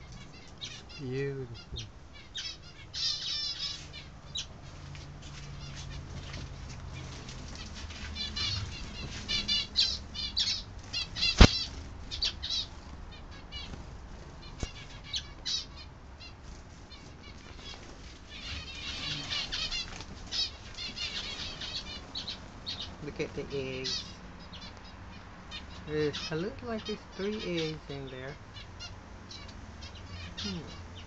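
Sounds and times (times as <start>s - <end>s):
small birds chirping and twittering: 0.0s - 31.0s.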